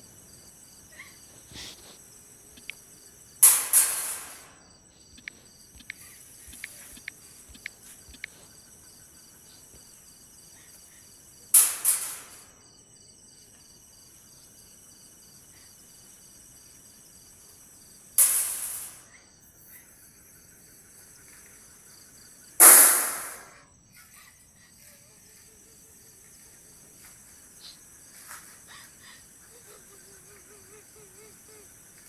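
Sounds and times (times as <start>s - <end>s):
crickets chirping: 0.0s - 22.8s, 23.4s - 32.0s.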